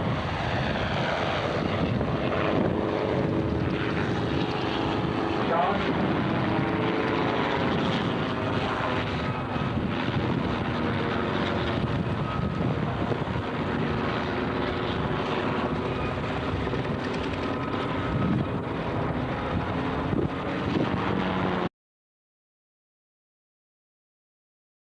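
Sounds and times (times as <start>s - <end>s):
helicopter rotor and engine: 0.0s - 21.7s.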